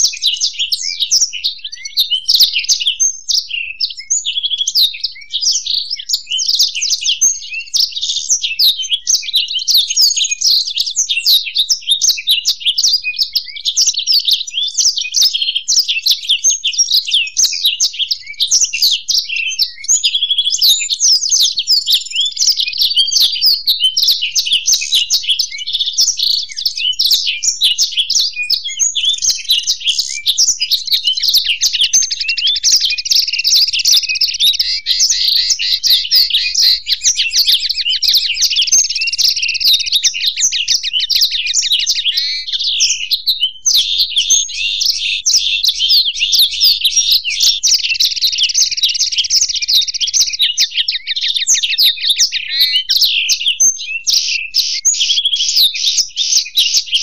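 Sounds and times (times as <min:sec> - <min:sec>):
birds singing trills: 0:00.0 - 0:57.0.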